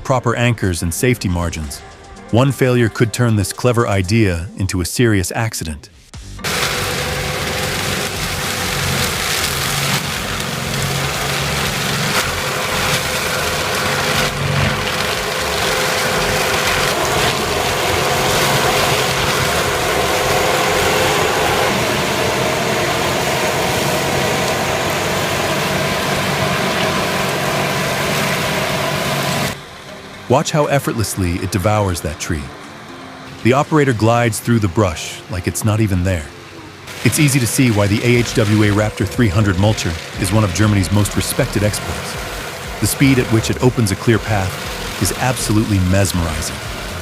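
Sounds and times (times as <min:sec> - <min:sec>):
heavy machinery engine running: 0:06.2 - 0:47.0
thin steady whine: 0:06.3 - 0:47.0.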